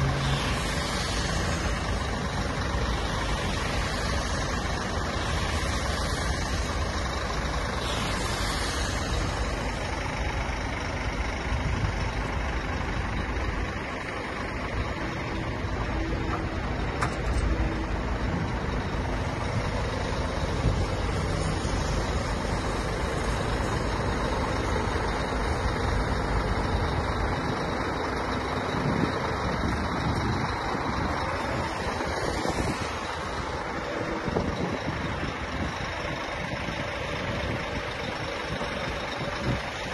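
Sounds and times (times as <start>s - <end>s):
diesel truck engine running: 0.0s - 39.9s
highway traffic passing: 0.0s - 39.9s.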